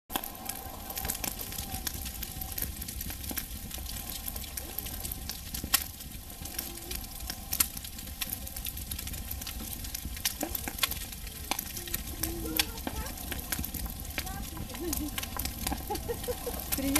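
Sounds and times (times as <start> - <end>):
wood fire crackling: 0.1 - 16.9.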